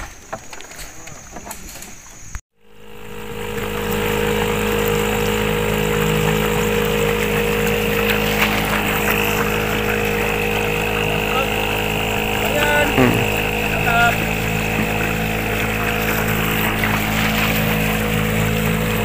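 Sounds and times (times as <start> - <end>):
small outboard motor running: 2.5 - 19.0.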